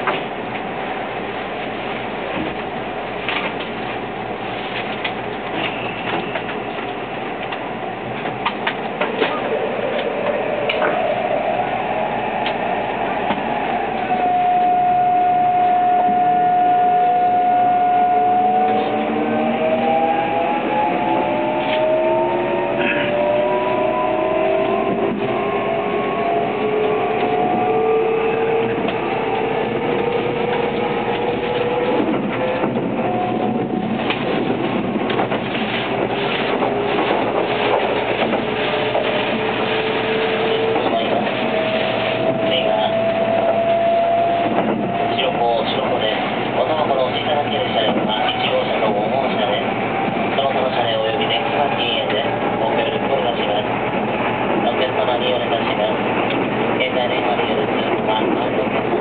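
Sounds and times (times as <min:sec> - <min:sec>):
electric train inverter whine: 0:00.0 - 0:59.0.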